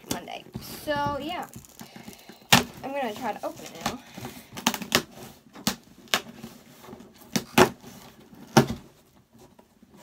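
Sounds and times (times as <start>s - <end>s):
cardboard knocks and crackles: 0.1s - 4.0s, 4.6s - 10.0s.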